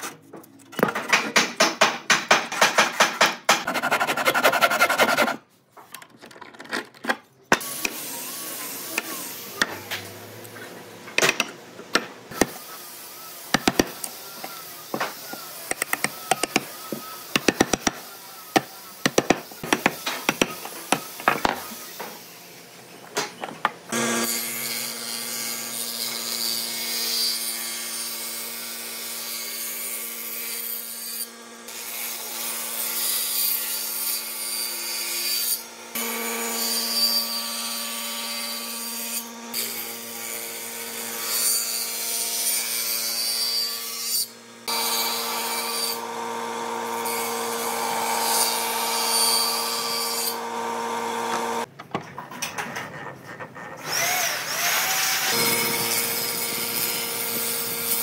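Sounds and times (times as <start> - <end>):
table saw cutting boards: 0.9 - 5.4, 7.5 - 51.7, 52.6 - 58.0.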